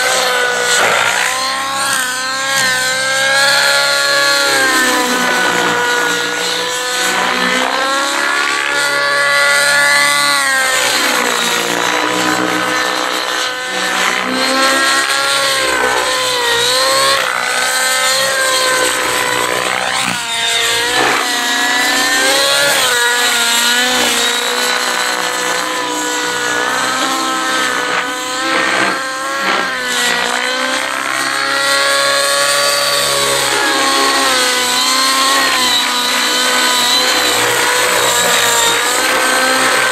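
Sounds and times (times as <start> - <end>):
model helicopter engine revving: 0.0 - 39.9.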